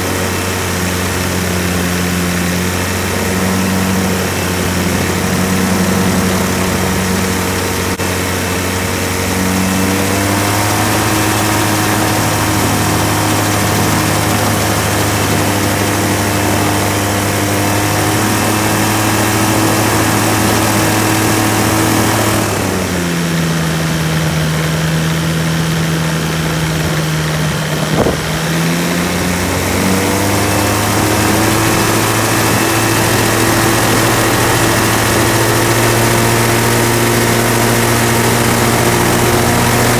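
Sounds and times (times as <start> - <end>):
aircraft engine and propeller running: 0.0 - 39.9.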